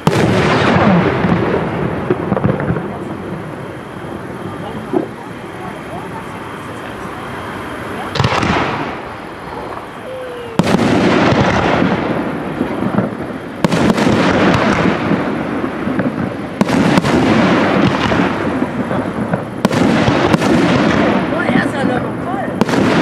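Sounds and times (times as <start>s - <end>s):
firework shells bursting: 0.0s - 23.0s
rumbling echo: 0.0s - 23.0s.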